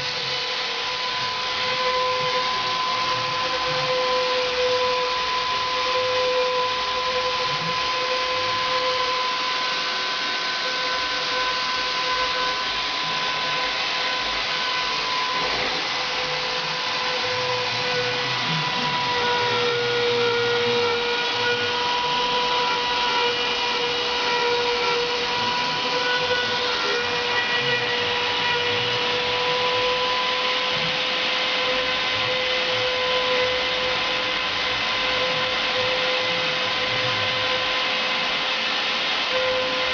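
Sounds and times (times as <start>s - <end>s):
router spindle whining while cutting: 0.0s - 39.9s.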